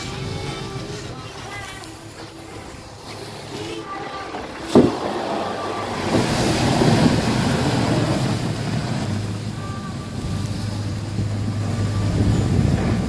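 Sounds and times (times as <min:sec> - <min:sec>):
diesel engine running under load: 0:00.0 - 0:13.0
plow blade scraping through snow: 0:00.0 - 0:13.0.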